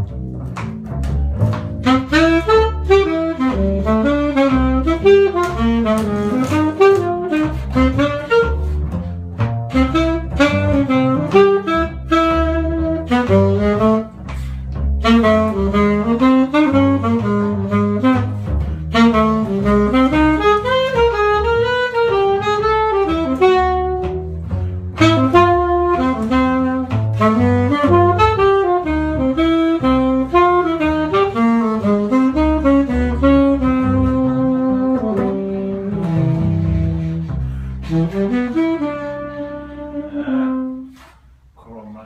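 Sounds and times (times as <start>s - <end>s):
quick jazz melodic run: 0.0s - 42.0s.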